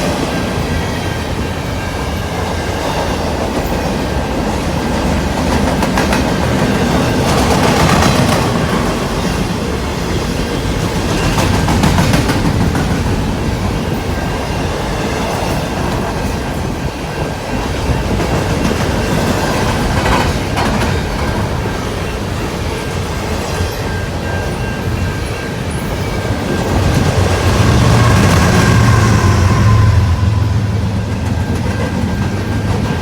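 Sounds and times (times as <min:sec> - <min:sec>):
train wheels rumbling on rails: 0:00.0 - 0:33.0
wheels clacking over rail joints: 0:00.0 - 0:33.0.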